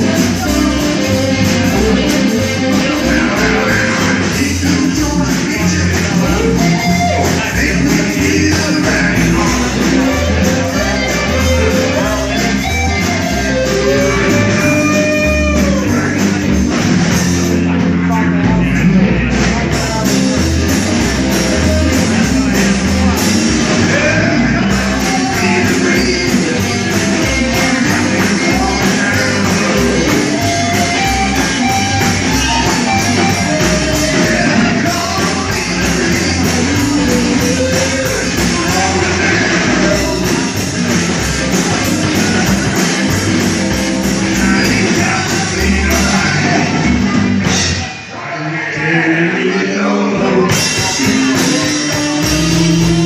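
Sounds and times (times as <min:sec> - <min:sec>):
loud rock band music: 0:00.0 - 0:53.0.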